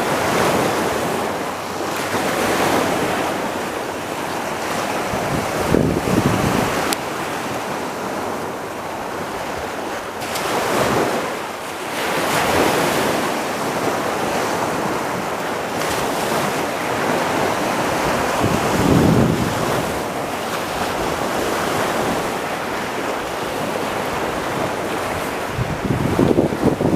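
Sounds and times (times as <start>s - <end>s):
surf washing onto beach: 0.0s - 26.9s
wind gusting across microphone: 0.0s - 26.9s.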